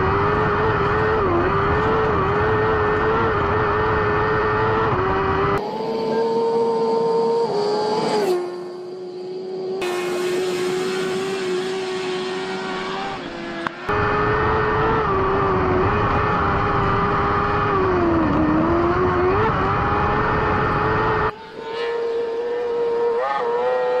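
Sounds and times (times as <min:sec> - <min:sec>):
car engine at high revs: 0:00.0 - 0:24.0.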